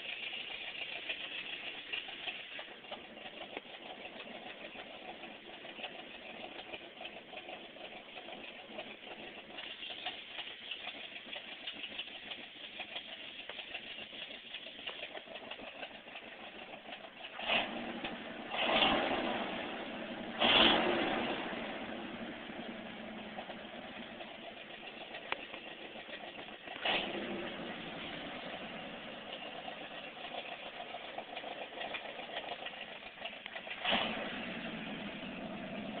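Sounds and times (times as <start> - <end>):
engine bursts: 0.0 - 36.0
pickup engine idling: 0.0 - 36.0.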